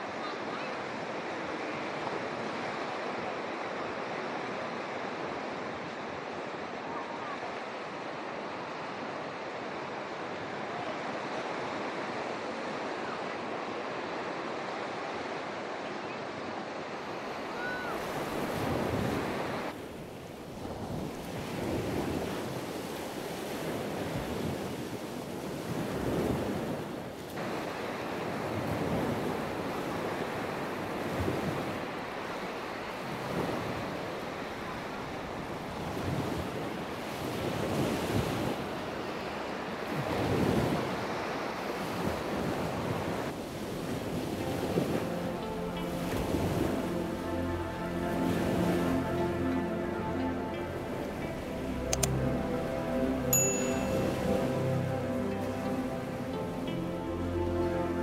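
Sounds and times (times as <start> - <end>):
small waves washing onto sand: 0.0 - 58.0.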